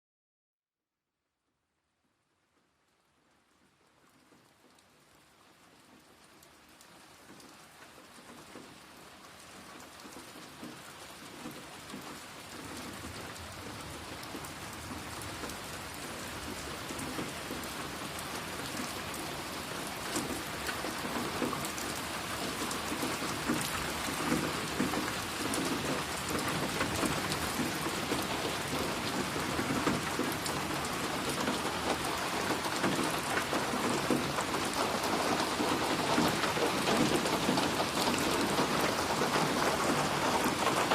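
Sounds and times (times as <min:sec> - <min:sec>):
rain splashing on a surface: 0:01.8 - 0:40.9.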